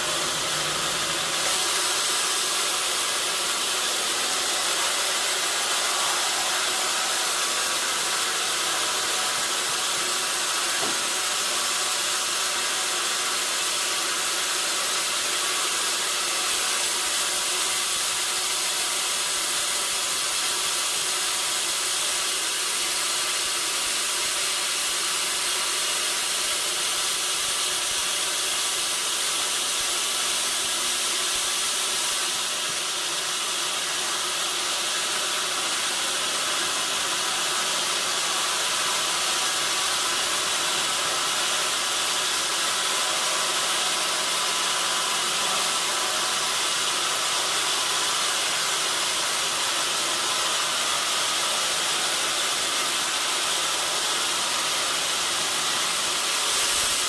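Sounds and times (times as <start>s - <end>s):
sawmill saw hissing: 0.0s - 57.0s.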